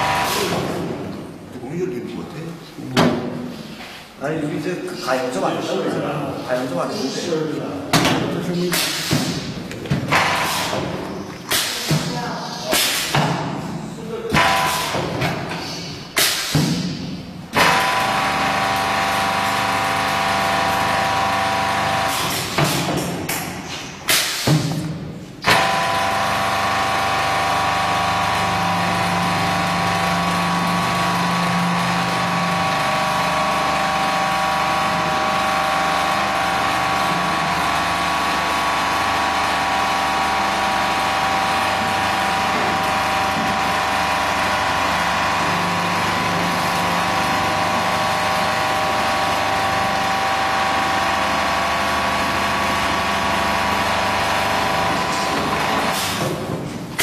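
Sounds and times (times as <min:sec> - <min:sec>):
welding machine buzzing: 0:00.0 - 0:01.3, 0:08.7 - 0:13.5, 0:14.3 - 0:23.4, 0:25.4 - 0:57.0.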